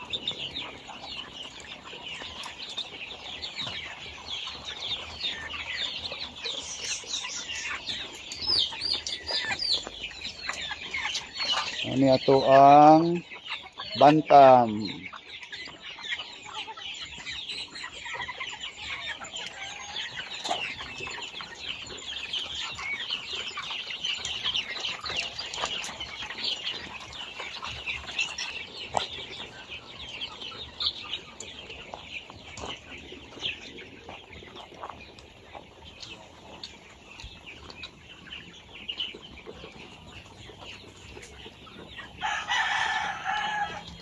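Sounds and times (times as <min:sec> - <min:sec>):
chickens clucking and chirping: 0:00.0 - 0:44.0.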